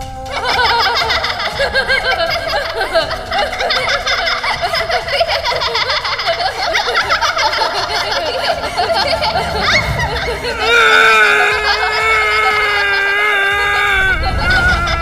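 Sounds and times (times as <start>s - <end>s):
crowd laughing: 0.0s - 15.0s.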